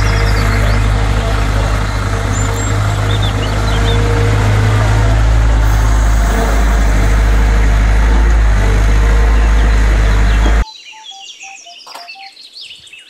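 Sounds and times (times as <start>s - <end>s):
excavator diesel engine running: 0.0s - 10.6s
excavator digging soil: 0.0s - 10.6s.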